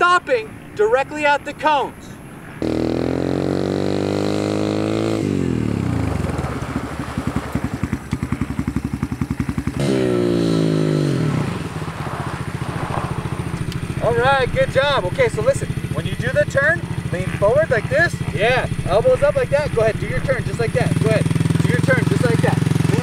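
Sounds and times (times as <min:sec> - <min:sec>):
dirt bike engine revving: 0:02.5 - 0:23.0
dirt bike idling: 0:02.6 - 0:23.0
tire skidding: 0:02.6 - 0:23.0.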